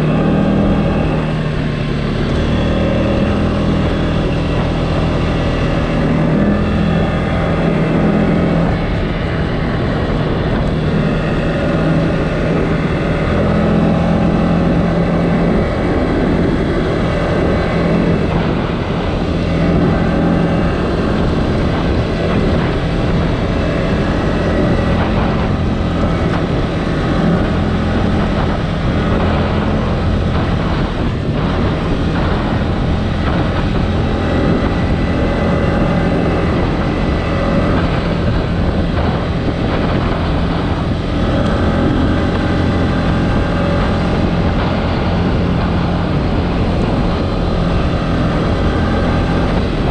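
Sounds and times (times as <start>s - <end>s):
atv engine running: 0.0s - 49.9s
riding noise: 0.0s - 49.9s.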